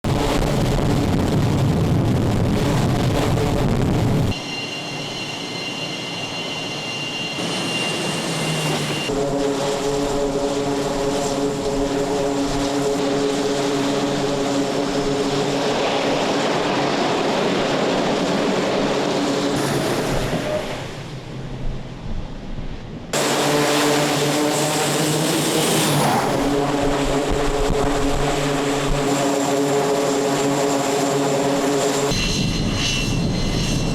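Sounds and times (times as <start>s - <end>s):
jet engines turbine whine: 0.1s - 33.9s.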